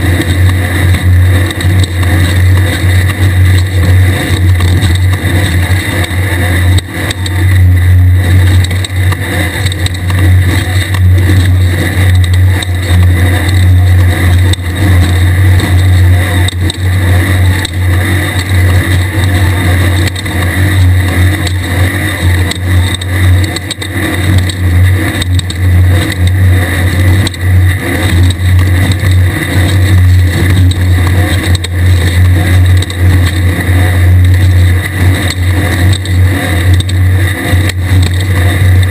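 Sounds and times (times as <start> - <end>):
loud engine drone: 0.0 - 38.9
rush of running car noise: 0.0 - 38.9.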